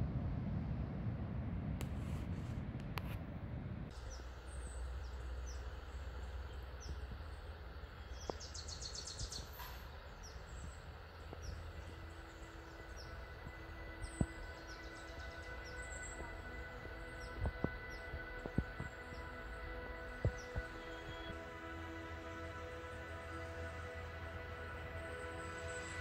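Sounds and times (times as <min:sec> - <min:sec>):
birds chirping: 0:03.9 - 0:26.0.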